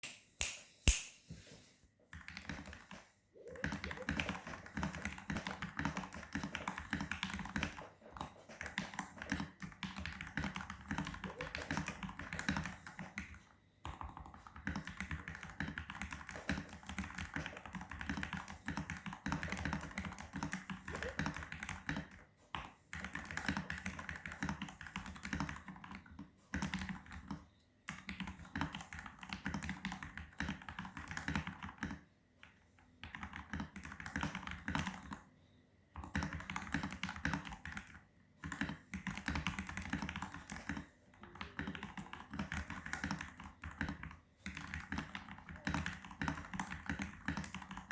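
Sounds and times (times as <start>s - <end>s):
mechanical keyboard typing: 2.1s - 35.2s, 36.0s - 47.9s.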